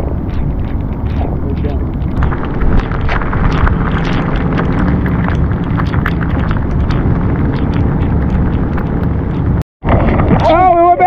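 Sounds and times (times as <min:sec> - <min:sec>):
wind buffeting microphone: 0:00.0 - 0:11.0
small ticks and crackles: 0:00.2 - 0:09.6.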